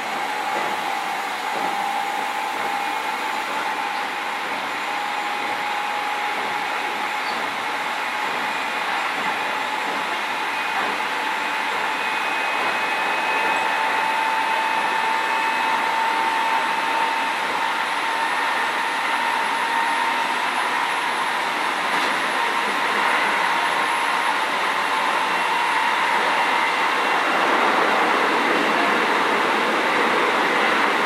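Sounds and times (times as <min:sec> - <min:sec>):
thin steady whine: 0:00.0 - 0:31.0
train wheels rolling on rail: 0:00.0 - 0:31.0.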